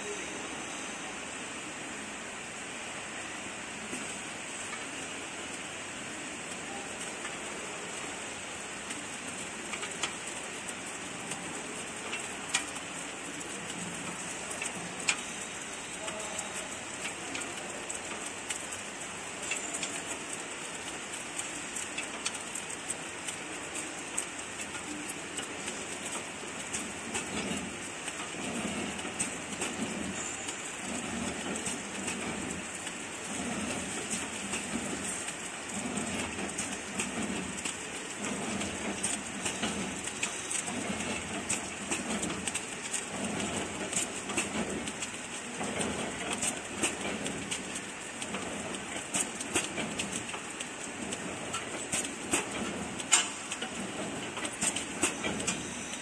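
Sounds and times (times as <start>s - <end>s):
packing machine running: 3.0s - 56.0s.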